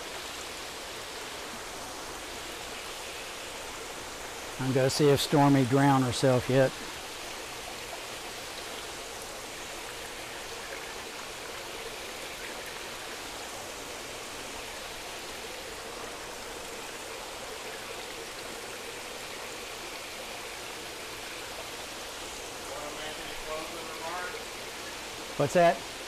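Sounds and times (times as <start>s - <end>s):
faint steady hum: 0.0s - 26.0s
water flowing in fish tank: 0.0s - 26.0s.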